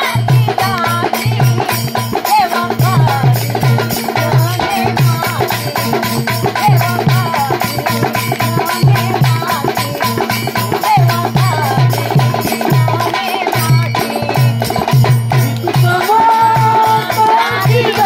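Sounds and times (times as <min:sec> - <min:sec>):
repeating drum beat: 0:00.0 - 0:18.0.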